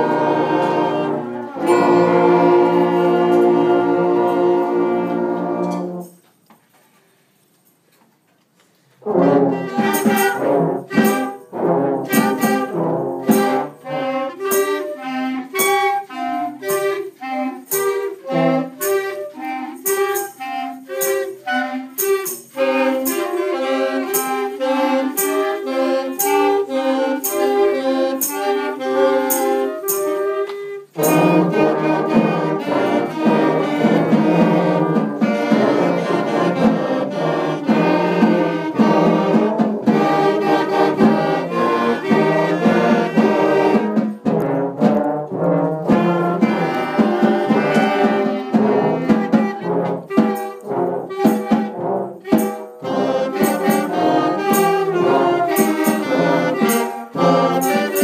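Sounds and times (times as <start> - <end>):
concert band playing: 0.0 - 6.1, 9.0 - 58.0.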